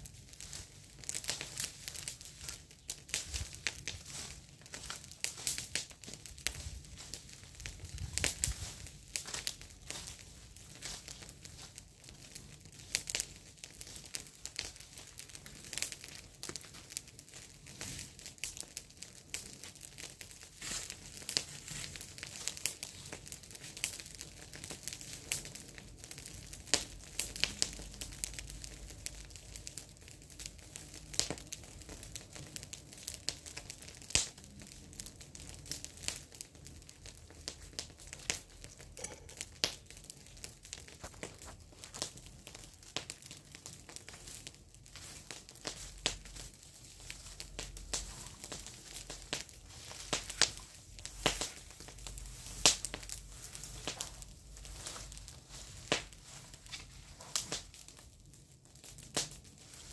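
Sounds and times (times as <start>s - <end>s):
dry leaves rustling and crackling: 0.0s - 58.1s.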